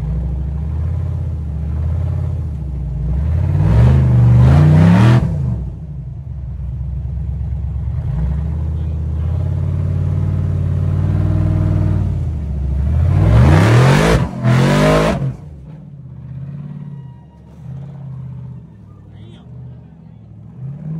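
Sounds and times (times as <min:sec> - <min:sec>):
buggy engine revving under load: 0:00.0 - 0:20.9.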